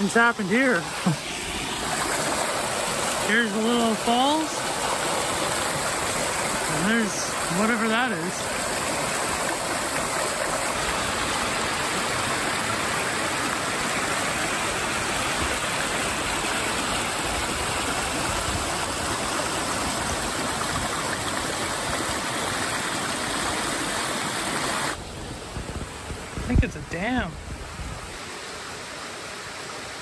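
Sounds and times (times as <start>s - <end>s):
creek rushing over rocks: 0.0s - 30.0s.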